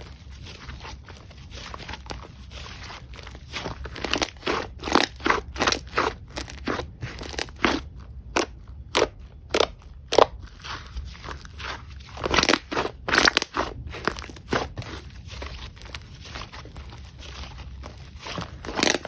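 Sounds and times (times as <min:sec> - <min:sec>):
hands squishing slime: 0:00.0 - 0:19.0.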